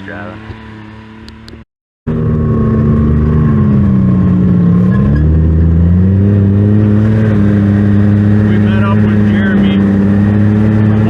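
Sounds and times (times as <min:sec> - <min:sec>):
utility vehicle engine under load: 0:00.0 - 0:11.0.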